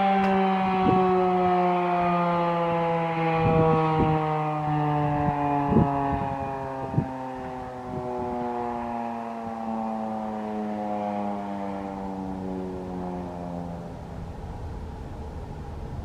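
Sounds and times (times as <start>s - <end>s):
warning siren winding down: 0.0s - 16.0s.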